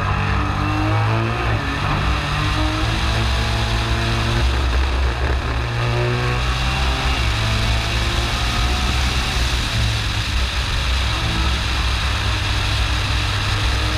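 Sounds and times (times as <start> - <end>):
race car engine revving: 0.0 - 13.9.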